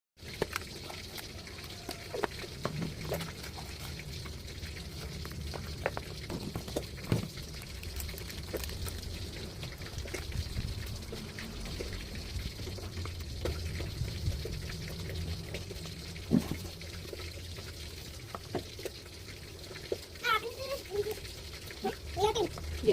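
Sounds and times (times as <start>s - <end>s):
water running and splashing: 0.2s - 22.9s.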